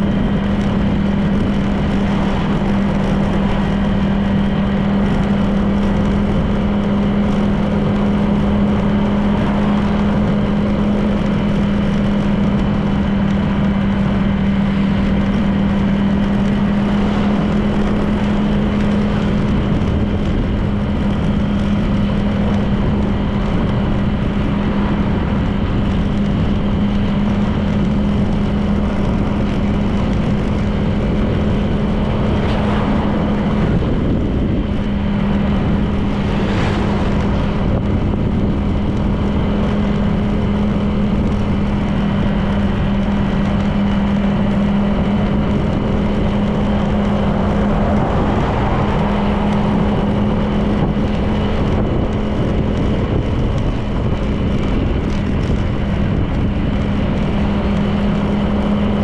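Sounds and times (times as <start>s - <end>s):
road noise: 0.0s - 59.0s
scooter engine cruising: 0.0s - 59.0s
wind noise: 0.0s - 59.0s.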